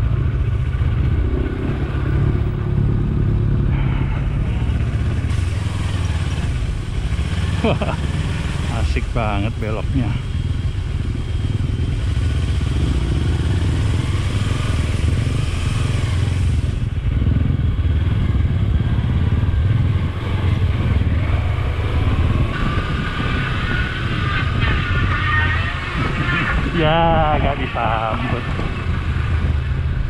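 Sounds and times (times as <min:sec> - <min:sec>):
motorcycle engine rumble: 0:00.0 - 0:30.0.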